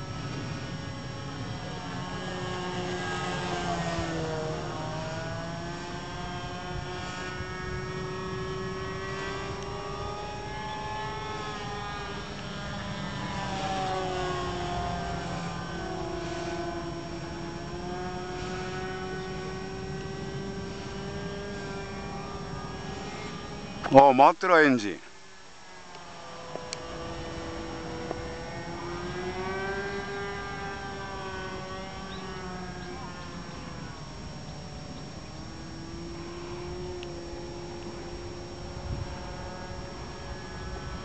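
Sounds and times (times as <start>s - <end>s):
model airplane engine buzzing: 0.0s - 41.0s.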